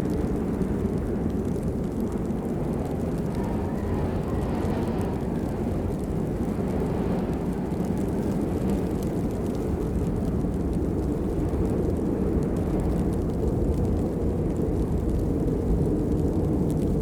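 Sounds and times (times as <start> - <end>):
patter of raindrops: 0.0 - 17.0
steady rain falling: 0.0 - 17.0.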